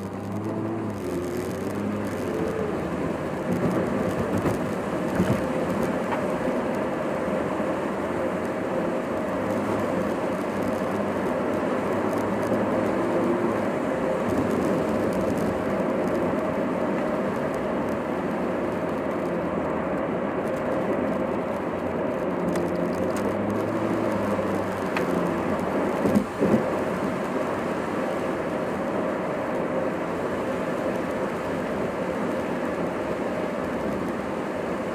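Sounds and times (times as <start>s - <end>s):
car road and engine noise: 0.0s - 34.9s.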